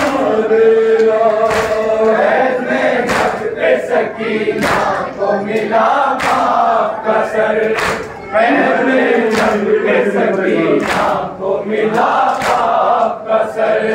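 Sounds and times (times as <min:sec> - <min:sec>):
men chanting a lament in unison: 0:00.0 - 0:13.9.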